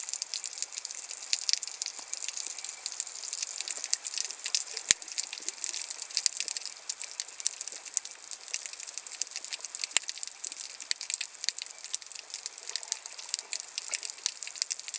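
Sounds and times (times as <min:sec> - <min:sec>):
underwater crackle of tiny clicks: 0:00.0 - 0:14.9.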